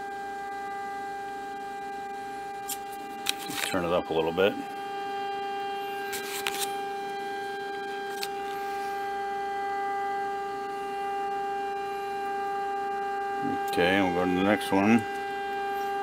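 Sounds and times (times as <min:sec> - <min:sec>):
steady test tone from speaker: 0:00.0 - 0:16.0.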